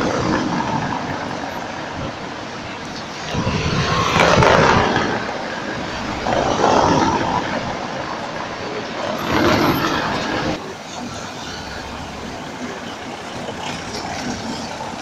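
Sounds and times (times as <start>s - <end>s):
city traffic rumble: 0.0s - 15.0s
tram rolling over track junction: 0.0s - 15.0s.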